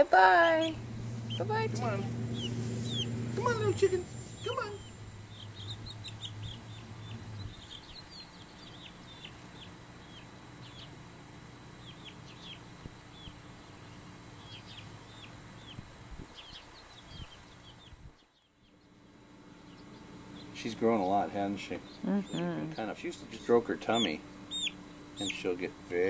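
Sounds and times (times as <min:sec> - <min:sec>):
chick peeping: 0:00.2 - 0:11.0, 0:11.8 - 0:25.7.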